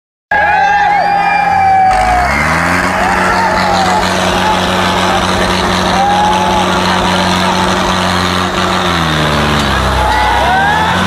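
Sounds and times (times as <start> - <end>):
crowd shouting and cheering: 0.3 - 11.0
diesel tractor engine running: 0.8 - 11.0.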